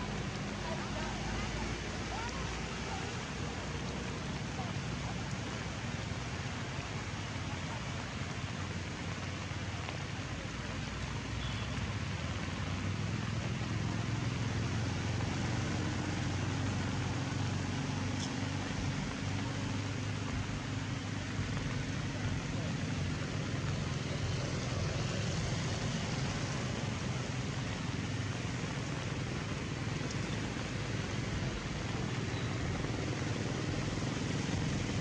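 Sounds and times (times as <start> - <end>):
rain hissing in forest: 0.0 - 35.0.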